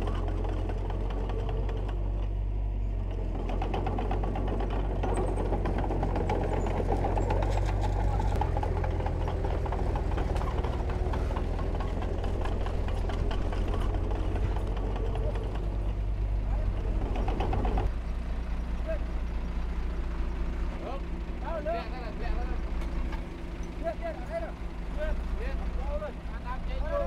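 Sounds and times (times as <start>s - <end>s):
diesel engine of heavy machinery: 0.0s - 27.0s.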